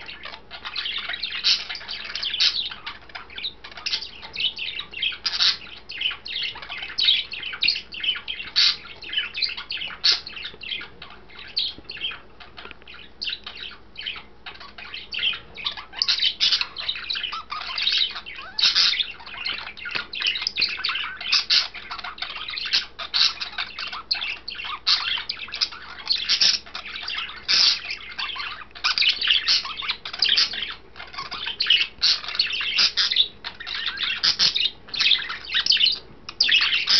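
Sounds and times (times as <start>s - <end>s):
budgerigar chattering: 0.0s - 36.9s.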